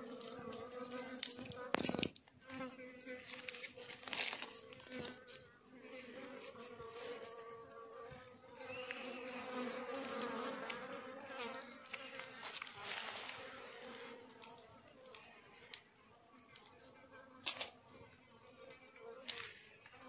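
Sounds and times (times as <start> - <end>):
flies buzzing: 0.0 - 20.0.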